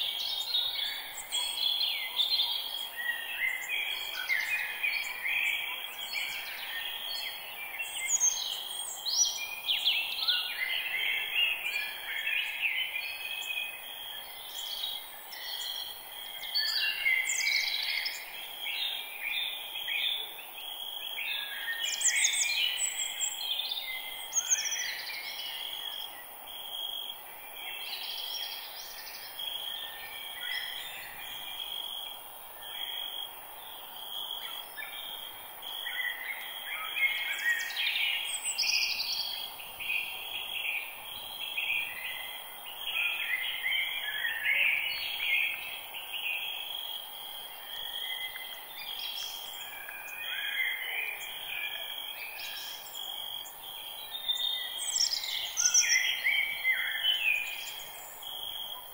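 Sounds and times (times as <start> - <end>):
birds singing and chirping: 0.0 - 26.3, 32.6 - 46.8, 47.7 - 58.5
faint background hiss: 0.0 - 58.9.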